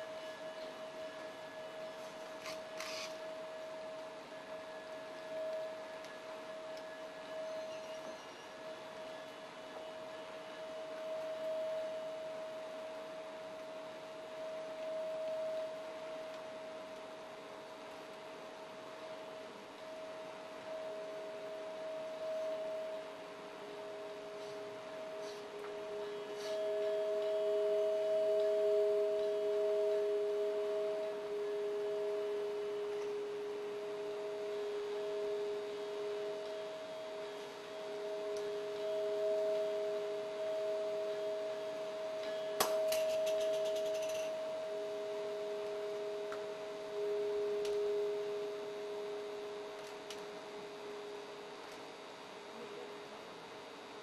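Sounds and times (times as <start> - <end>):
drone of pure tones: 0.0 - 54.0.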